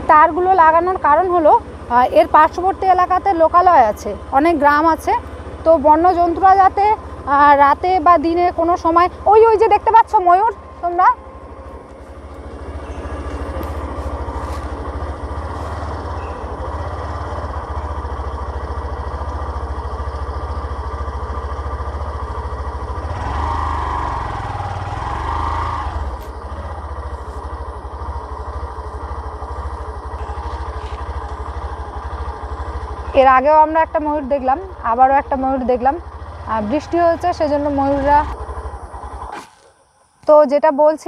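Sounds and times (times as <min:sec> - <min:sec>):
motorcycle engine running: 0:00.0 - 0:40.5.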